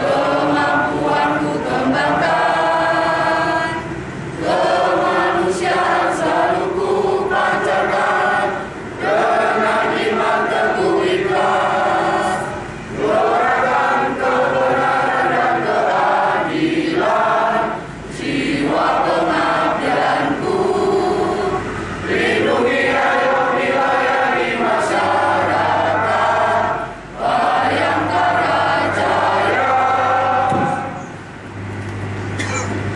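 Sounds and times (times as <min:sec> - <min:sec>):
choir singing: 0:00.0 - 0:31.2.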